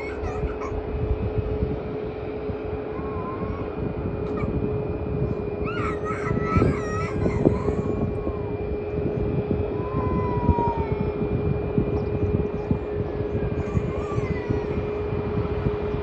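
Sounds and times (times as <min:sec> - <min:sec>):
distant jet airliner landing: 0:00.0 - 0:16.0.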